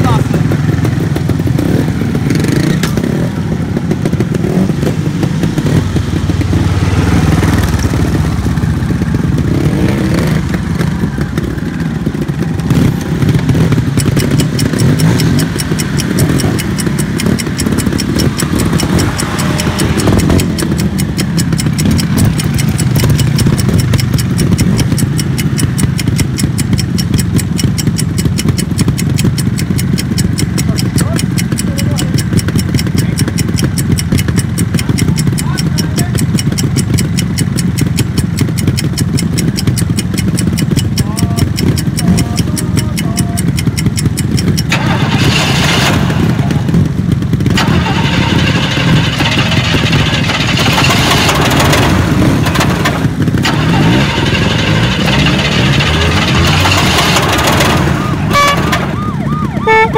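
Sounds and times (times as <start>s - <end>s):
fast even ticking: 0.0s - 59.9s
motorcycle engines idling: 0.0s - 59.9s.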